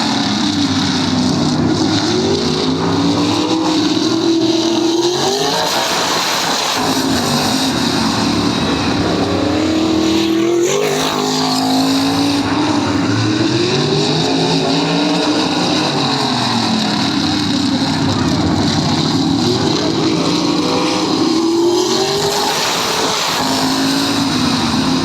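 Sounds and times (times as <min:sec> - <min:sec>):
race car engines accelerating: 0:00.0 - 0:25.0.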